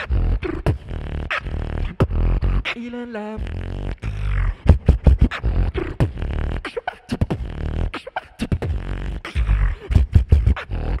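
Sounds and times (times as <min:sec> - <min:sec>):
beatboxing into a microphone: 0:00.0 - 0:11.0.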